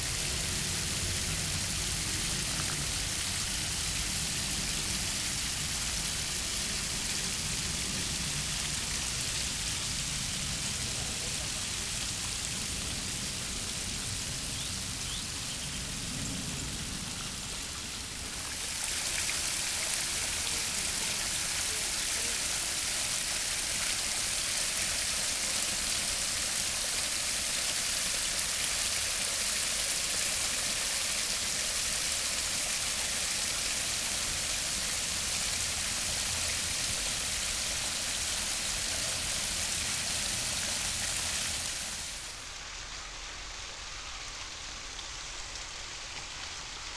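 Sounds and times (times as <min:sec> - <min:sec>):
waterfall splashing over rocks: 0:00.0 - 0:46.9.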